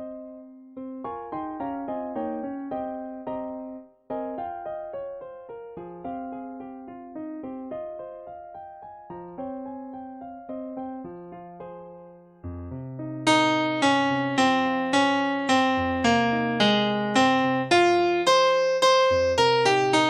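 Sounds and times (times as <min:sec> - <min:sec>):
piano melody over chords: 0:00.0 - 0:20.0.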